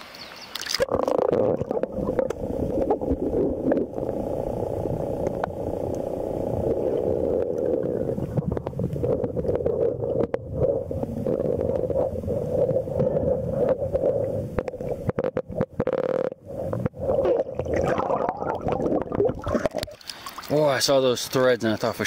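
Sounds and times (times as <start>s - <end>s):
underwater clicks and knocks: 0.6s - 20.2s
muffled underwater river rushing: 0.7s - 22.0s.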